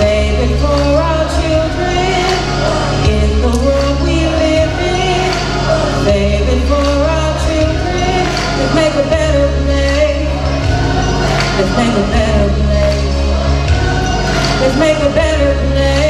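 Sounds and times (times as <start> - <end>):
children's choir singing: 0.0 - 16.0
music with heavy bass: 0.0 - 16.0.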